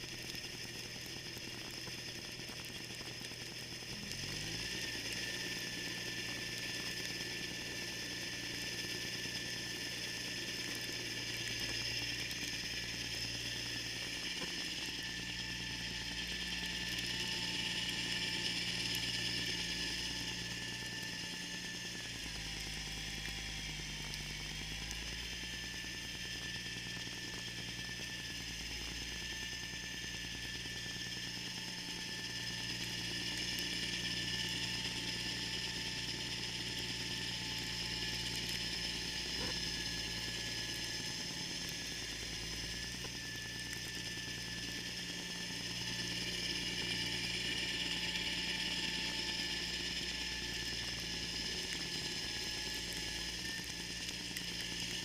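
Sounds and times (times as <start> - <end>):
snowblower auger whirring: 0.0 - 55.0.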